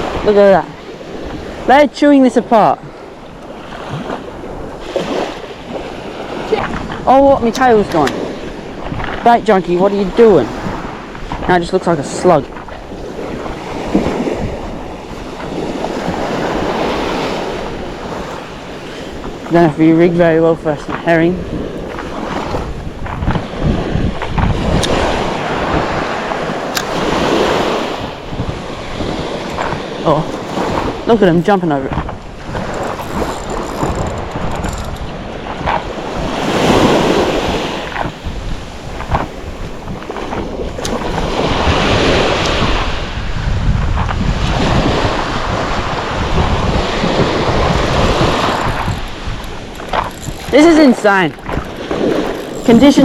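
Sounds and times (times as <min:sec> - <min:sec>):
sea water sloshing: 0:00.0 - 0:53.0
wind buffeting microphone: 0:00.0 - 0:53.0.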